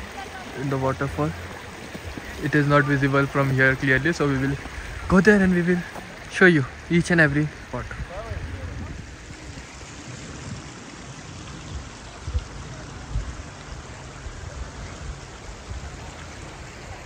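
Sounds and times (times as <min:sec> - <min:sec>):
small stream rushing: 0:00.0 - 0:17.0.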